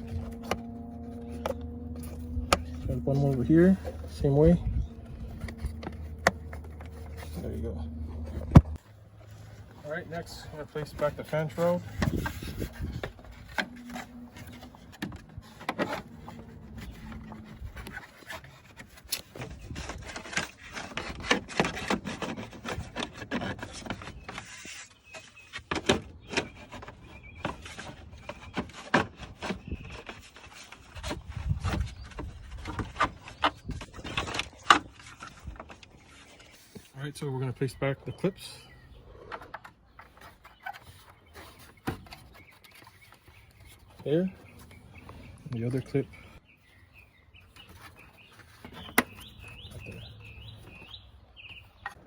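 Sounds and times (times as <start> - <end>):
plastic scraping and rubbing: 0.0 - 52.0.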